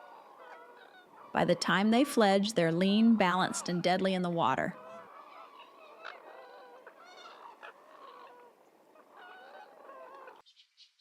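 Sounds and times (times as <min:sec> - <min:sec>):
heron chicks calling: 0:00.0 - 0:10.4.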